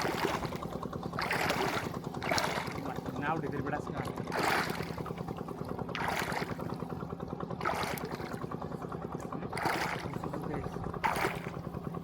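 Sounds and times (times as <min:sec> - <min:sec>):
boat motor humming: 0:00.0 - 0:12.0
water splashing: 0:00.0 - 0:12.0.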